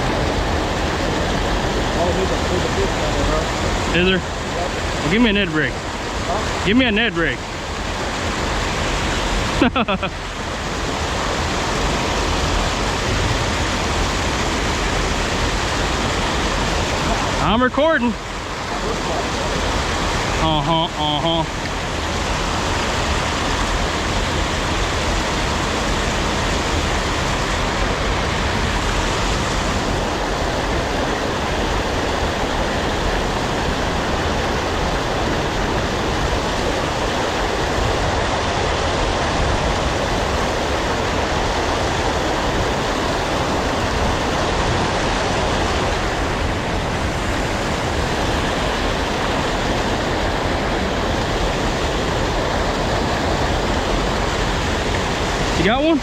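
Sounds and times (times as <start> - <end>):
creek water rushing over rocks: 0.0 - 56.0.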